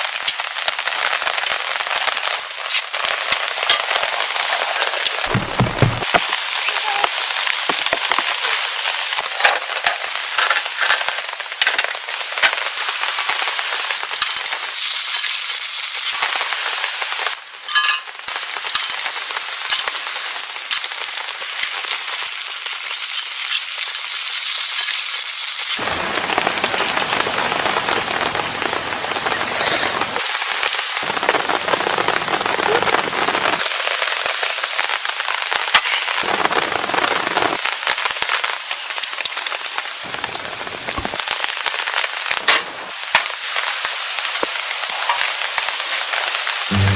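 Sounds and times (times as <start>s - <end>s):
rain falling with drop ticks: 0.0s - 23.6s, 25.7s - 46.7s.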